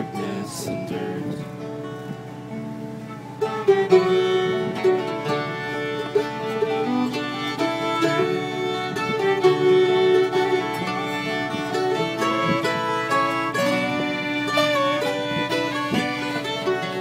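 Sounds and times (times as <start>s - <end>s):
fiddle melody: 0.0s - 17.0s
resonator guitar with steel bar: 0.0s - 17.0s
strummed acoustic guitar: 0.0s - 17.0s.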